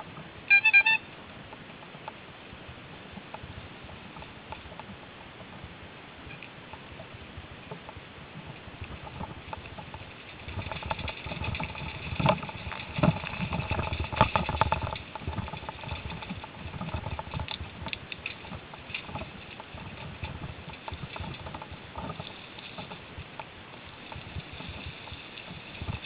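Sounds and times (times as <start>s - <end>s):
bike rattling over bumps: 1.3s - 26.0s.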